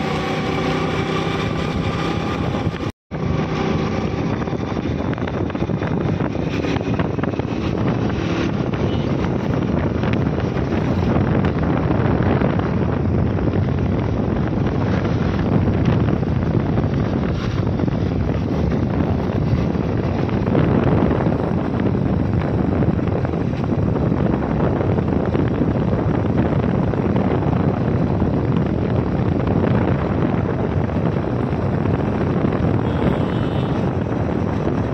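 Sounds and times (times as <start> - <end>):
motorcycle engine running: 0.0 - 34.9
wind rushing over microphone: 0.0 - 34.9.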